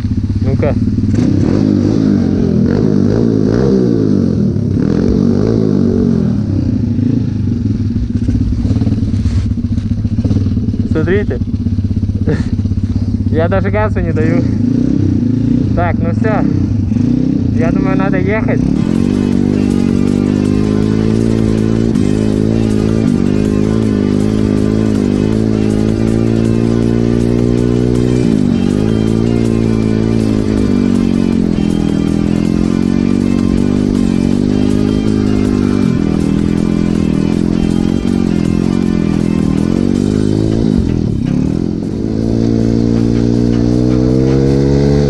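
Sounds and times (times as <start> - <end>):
motorbike engine running: 0.0 - 45.0.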